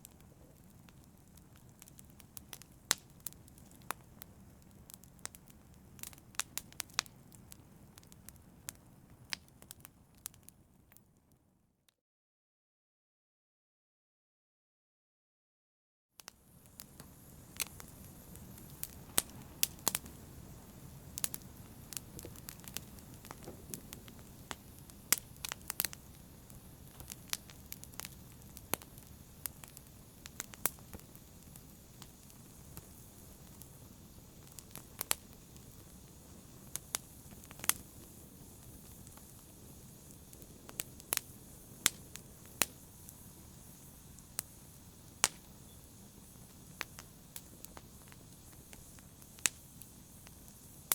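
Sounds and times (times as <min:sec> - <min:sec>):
low rumble of flames: 0:00.0 - 0:11.0, 0:16.3 - 0:50.9
wood fire crackling and popping: 0:00.0 - 0:11.1, 0:16.2 - 0:50.9.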